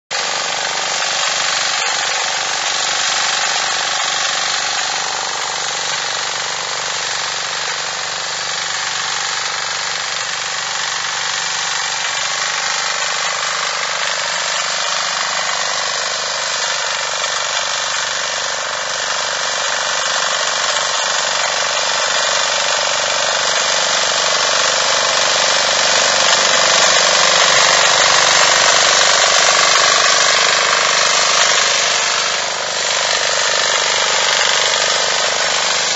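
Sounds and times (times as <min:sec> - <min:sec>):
tiller engine running: 0:00.1 - 0:35.9
tines churning soil: 0:00.1 - 0:35.9.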